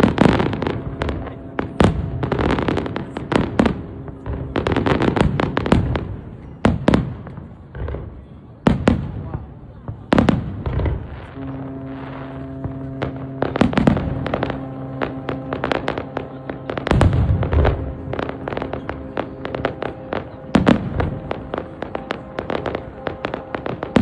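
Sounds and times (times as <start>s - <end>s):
fireworks booms: 0.0s - 24.0s
fireworks crackling: 0.0s - 24.0s
steady low tone: 0.0s - 24.0s.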